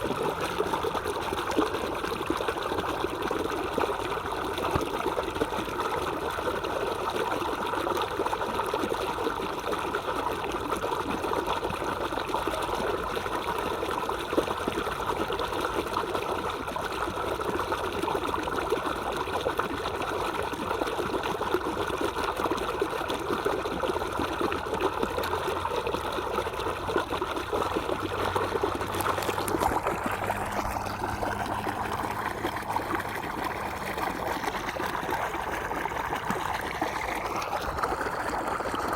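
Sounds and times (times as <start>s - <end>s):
stream trickling and babbling: 0.0s - 38.9s.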